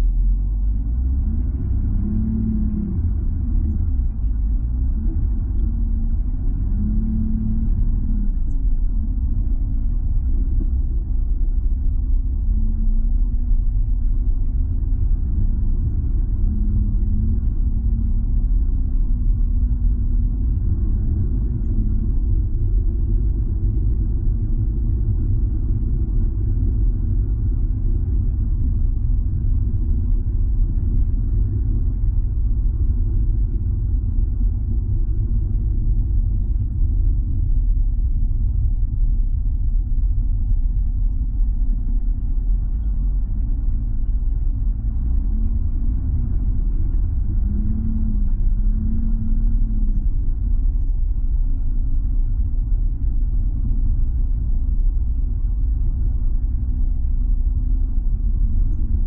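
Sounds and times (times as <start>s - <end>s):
car rumble on snowy road: 0.0s - 59.0s.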